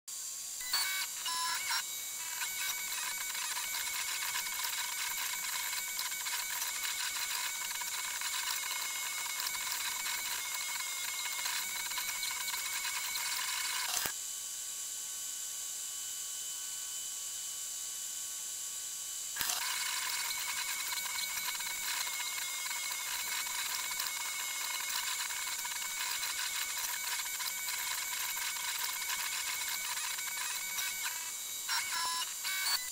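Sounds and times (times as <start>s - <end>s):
stepper motors whining: 0.6s - 14.1s, 19.4s - 32.9s.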